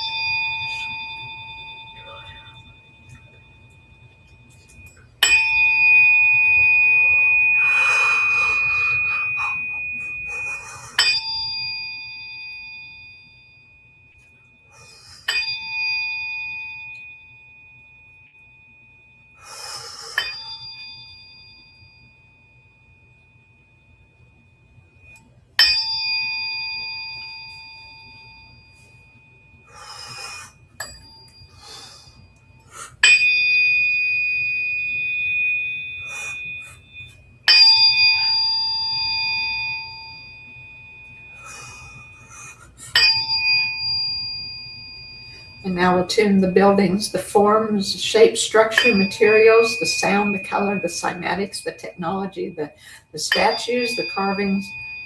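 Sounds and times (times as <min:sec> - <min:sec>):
tuning forks ringing: 0:00.0 - 0:55.0.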